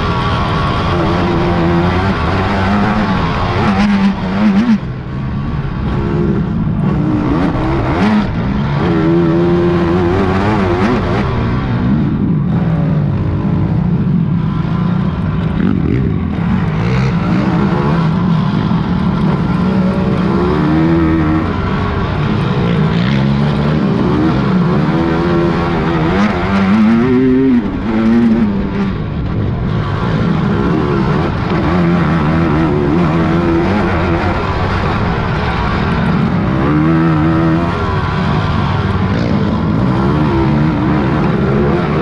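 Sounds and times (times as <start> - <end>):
quad engines revving: 0.0 - 42.0.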